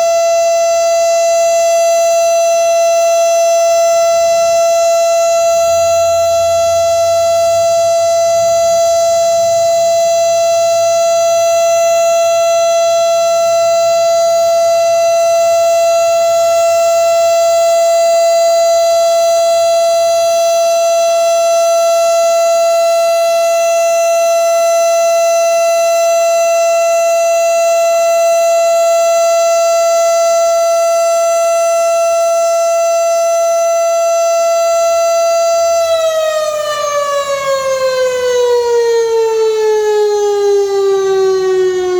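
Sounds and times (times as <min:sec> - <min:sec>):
warning siren steady tone: 0:00.0 - 0:41.9.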